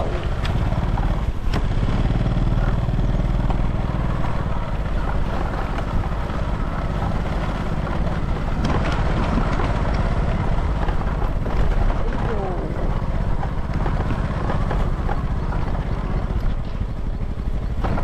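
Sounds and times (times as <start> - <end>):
motor scooter engine running: 0.0 - 18.0.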